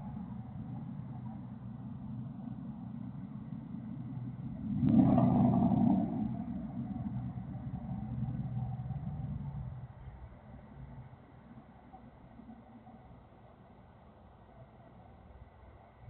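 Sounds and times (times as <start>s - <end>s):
truck engine with loud exhaust: 0.0s - 16.0s.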